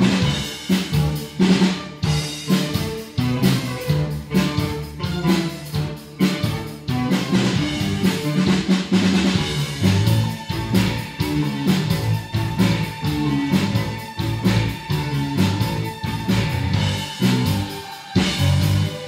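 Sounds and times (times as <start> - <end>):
bass guitar: 0.0 - 19.0
drum kit beat: 0.0 - 19.0.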